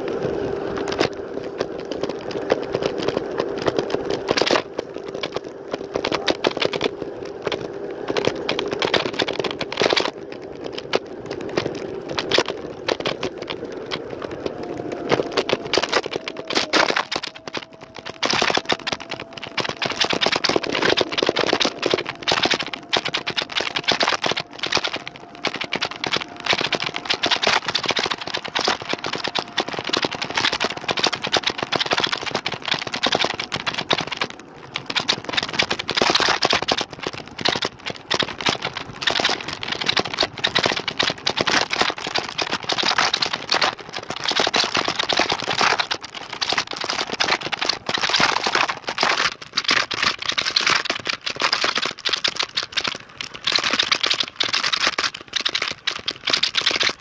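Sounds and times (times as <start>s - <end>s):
electric scooter rattling: 0.0s - 57.0s.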